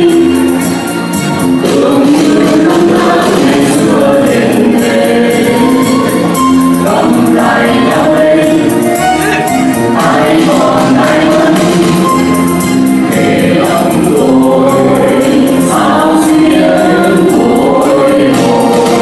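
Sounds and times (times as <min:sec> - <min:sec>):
mixed vocal group singing: 0:00.0 - 0:19.0
musical accompaniment: 0:00.0 - 0:19.0.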